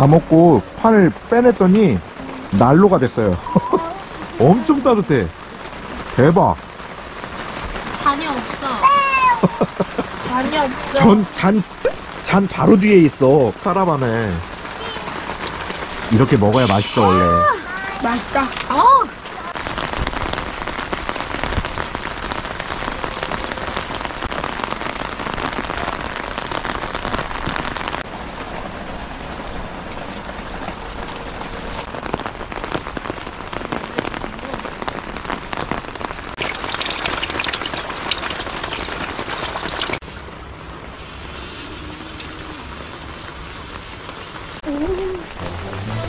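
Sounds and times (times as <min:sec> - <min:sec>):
heavy rain pattering: 0:00.0 - 0:46.0.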